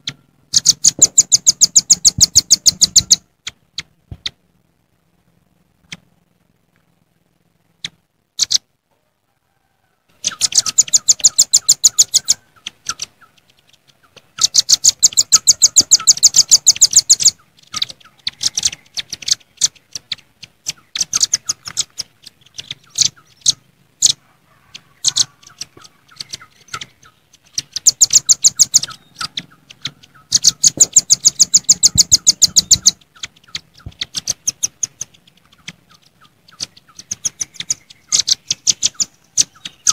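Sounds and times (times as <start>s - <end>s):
birds calling sharp notes: 0.0s - 4.4s, 10.2s - 39.9s.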